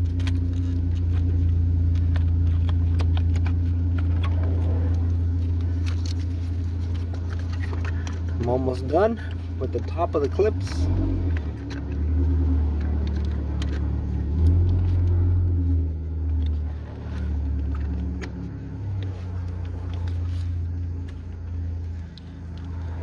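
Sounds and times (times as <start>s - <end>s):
engine rumble and hum: 0.0s - 23.0s.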